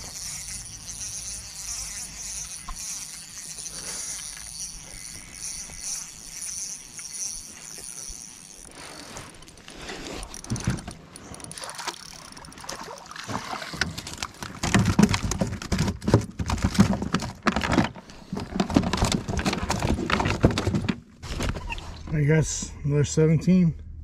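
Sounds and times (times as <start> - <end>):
gear clattering on plastic kayak: 0.0 - 22.2.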